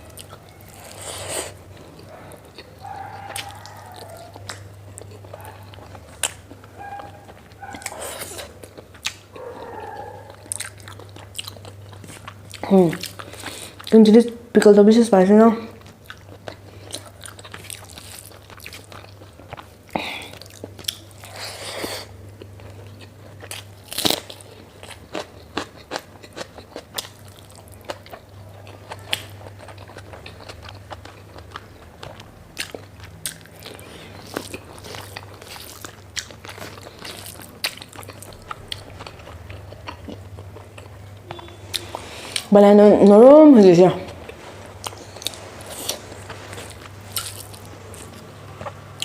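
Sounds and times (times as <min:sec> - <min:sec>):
person chewing food: 0:00.0 - 0:14.0, 0:15.8 - 0:42.5, 0:44.1 - 0:49.0
faint low hum: 0:00.0 - 0:49.0.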